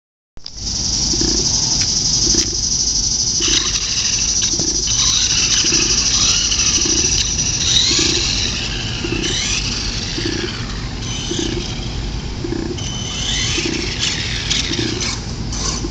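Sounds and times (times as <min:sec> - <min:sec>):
electric motor whine: 0:00.5 - 0:15.9.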